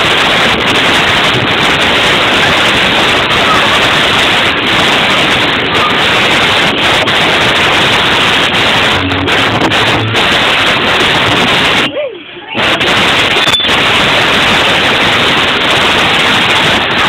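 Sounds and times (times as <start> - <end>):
loud distorted music: 0.0 - 12.0, 12.6 - 17.0.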